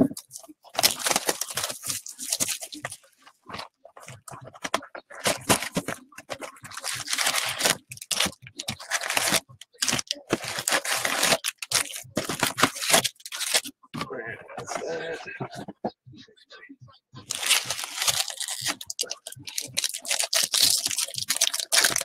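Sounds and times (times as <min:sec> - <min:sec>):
cellophane crinkling and tearing: 0:00.0 - 0:13.7, 0:17.3 - 0:22.0
foil packs rustling: 0:00.0 - 0:13.7, 0:17.3 - 0:22.0.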